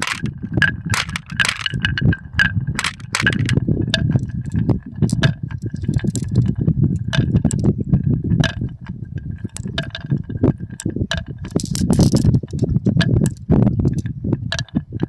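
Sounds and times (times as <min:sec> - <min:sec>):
marbles rolling down wooden track: 0:00.0 - 0:07.7, 0:09.5 - 0:14.8
marbles clacking: 0:00.0 - 0:14.8.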